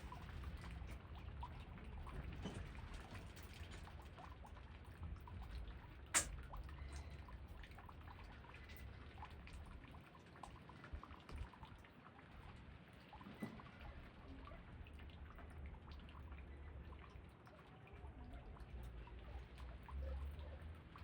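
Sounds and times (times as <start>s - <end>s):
light rain: 0.0s - 21.0s
water drips: 0.0s - 21.0s.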